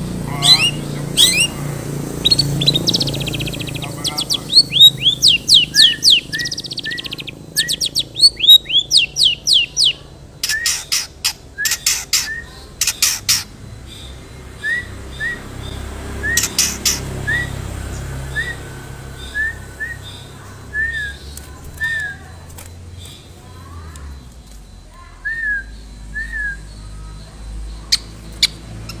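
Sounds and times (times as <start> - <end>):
harsh bird chatter: 0.0 - 29.0
bird singing whistled notes: 0.3 - 10.9, 14.0 - 22.4, 24.7 - 29.0.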